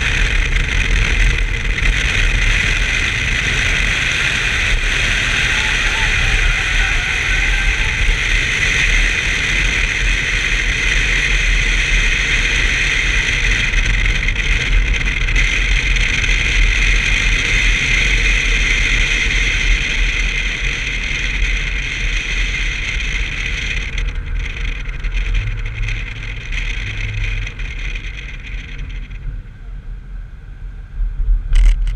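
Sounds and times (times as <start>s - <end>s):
car engine running: 0.0s - 30.6s
road and wind noise: 0.0s - 31.9s.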